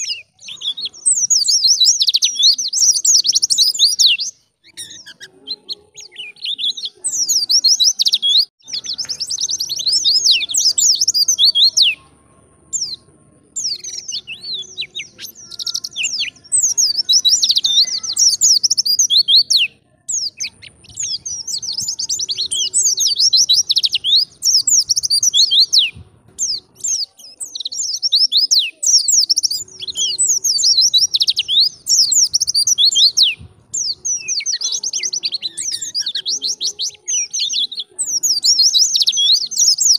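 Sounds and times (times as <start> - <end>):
bird singing twittering song: 0.0 - 39.9.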